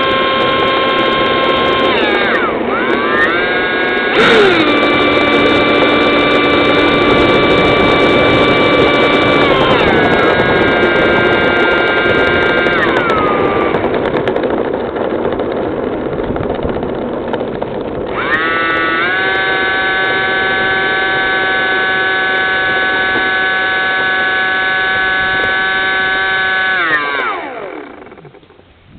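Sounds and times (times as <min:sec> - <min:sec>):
electric fans whining: 0:00.0 - 0:28.9.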